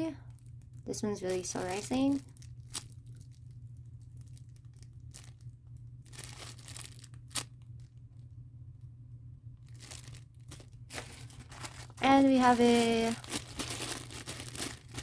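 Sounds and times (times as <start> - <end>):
foam toy crinkling and rustling: 0.0 - 8.4, 9.5 - 15.0
steady low hum: 0.0 - 15.0.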